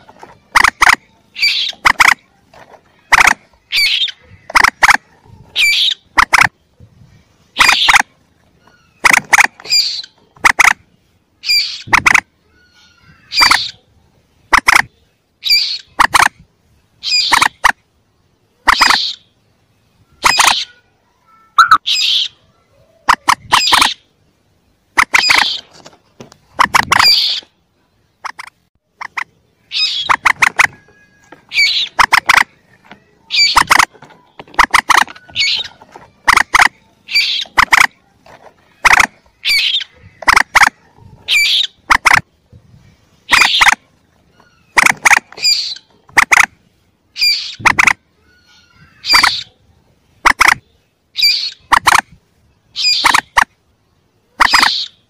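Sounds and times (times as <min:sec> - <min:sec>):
rail bird calls: 0:00.0 - 0:55.0.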